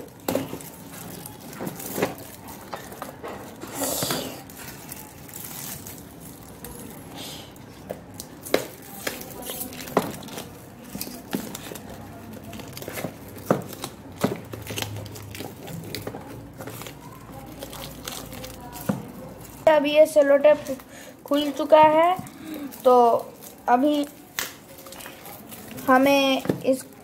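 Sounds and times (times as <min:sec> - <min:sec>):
card and tape crinkling: 0:00.0 - 0:27.0.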